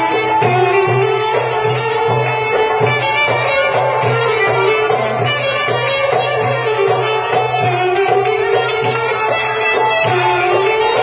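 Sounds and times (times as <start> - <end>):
steady drum beat: 0.0 - 11.0
violin melody: 0.0 - 11.0.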